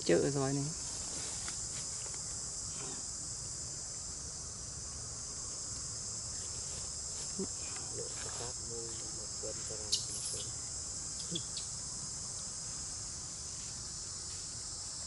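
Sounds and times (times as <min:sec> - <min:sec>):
insects buzzing shrilly: 0:00.0 - 0:15.0.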